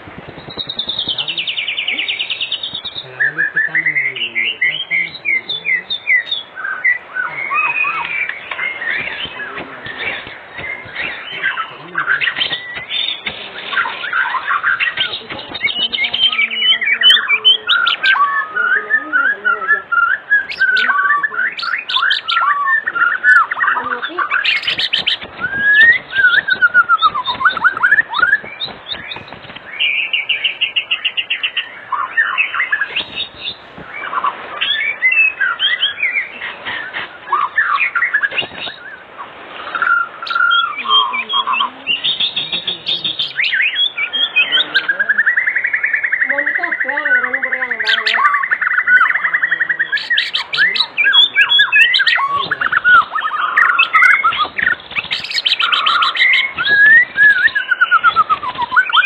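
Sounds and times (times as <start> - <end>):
songbird singing whistles and trills: 0.2 - 59.0.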